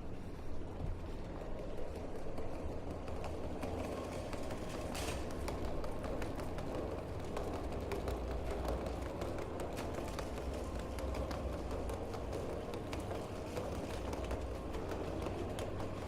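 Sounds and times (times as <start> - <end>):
low steady street rumble: 0.0 - 16.0.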